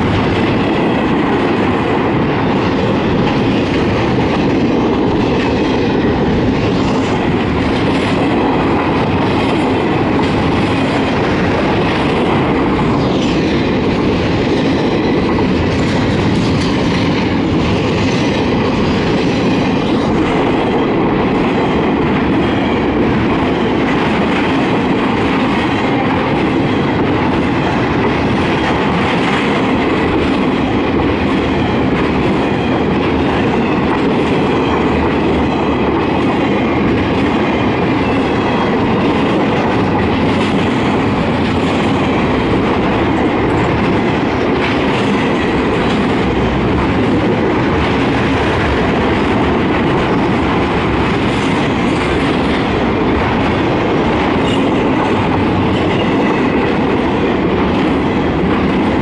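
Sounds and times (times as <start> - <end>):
clicking rattle of train cars: 0.0 - 59.0
freight train wheels on rails: 0.0 - 59.0.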